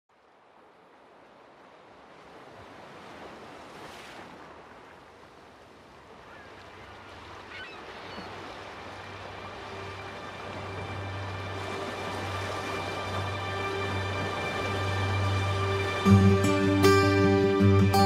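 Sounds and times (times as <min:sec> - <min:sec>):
sea waves washing: 0:00.1 - 0:18.0.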